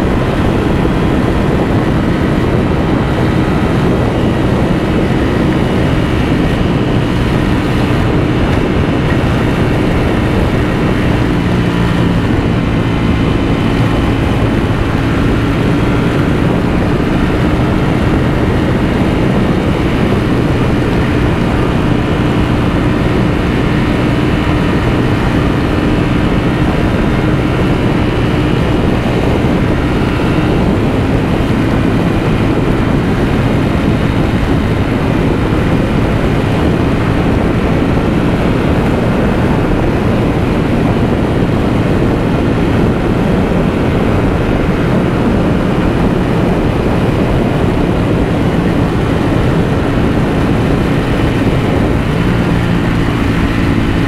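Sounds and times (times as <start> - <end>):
motorcycle engine cruising: 0.0 - 54.0
road noise: 0.0 - 54.0
wind noise: 0.0 - 54.0.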